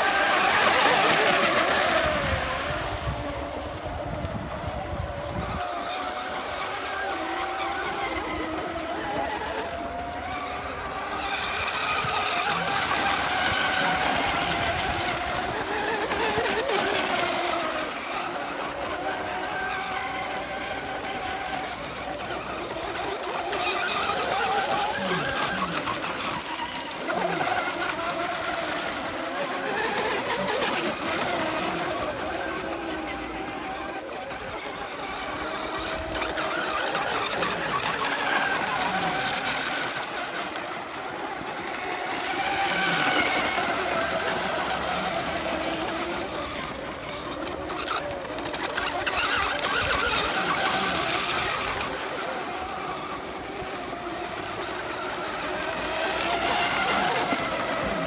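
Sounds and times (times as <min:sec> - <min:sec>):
rc boat motors whining: 0:00.0 - 0:58.0.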